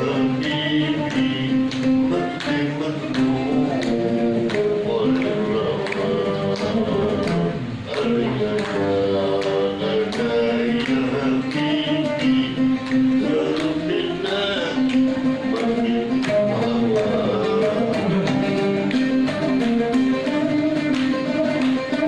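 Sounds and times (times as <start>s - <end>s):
plucked string instrument: 0.0s - 22.0s.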